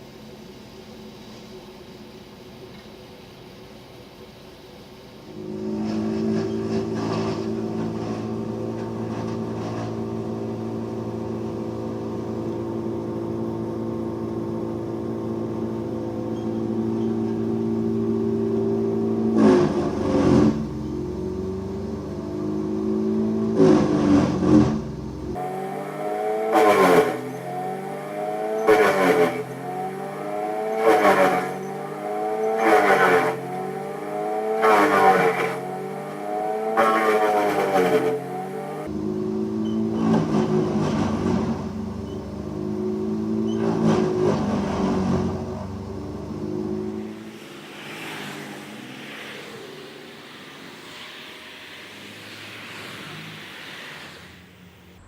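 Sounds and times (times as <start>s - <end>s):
small petrol engine running: 5.3s - 55.0s.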